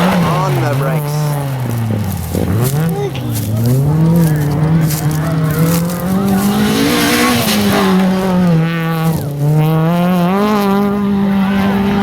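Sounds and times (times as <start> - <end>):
rally car engine revving: 0.0 - 12.0
tyres skidding on gravel: 0.0 - 12.0.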